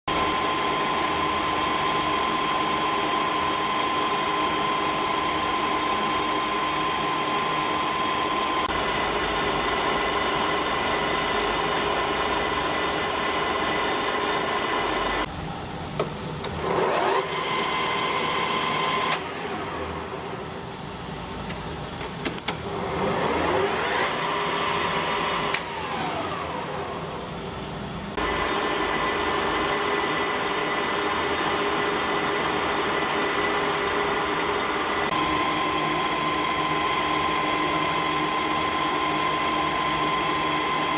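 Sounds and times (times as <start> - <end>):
lathe running with whine: 0.1 - 15.3, 16.5 - 21.3, 22.6 - 40.9.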